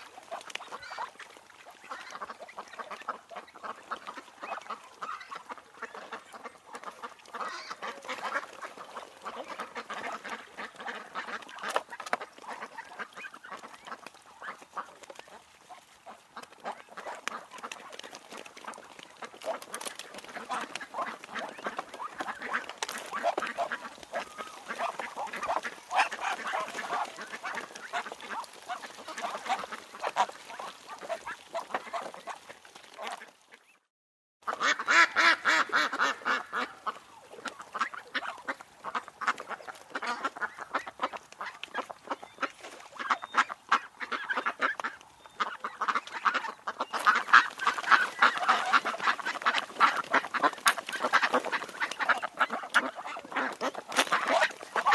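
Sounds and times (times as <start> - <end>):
ducks quacking: 0.0 - 33.8, 34.4 - 54.9.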